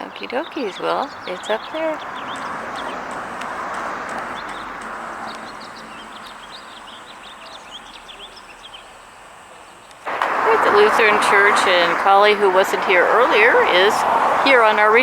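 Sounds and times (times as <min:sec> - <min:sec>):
small birds chirping: 0:00.0 - 0:15.0
broad rushing noise: 0:00.4 - 0:15.0.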